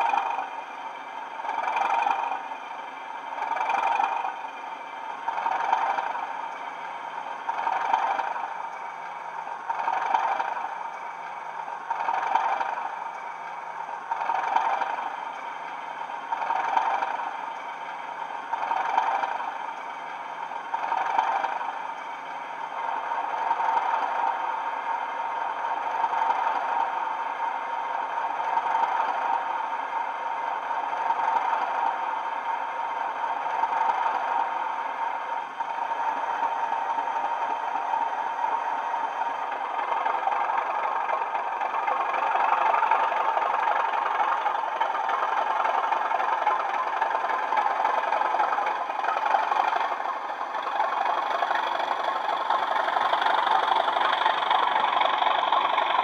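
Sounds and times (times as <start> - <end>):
diesel engine sound through small speakers: 0.0 - 56.0.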